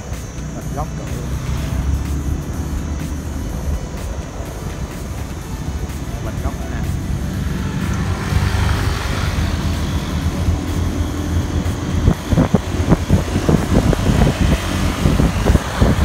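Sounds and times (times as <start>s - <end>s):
irregular thumps and buffeting: 0.0s - 16.0s
road noise: 0.0s - 16.0s
vehicle engine hum while driving: 0.0s - 16.0s.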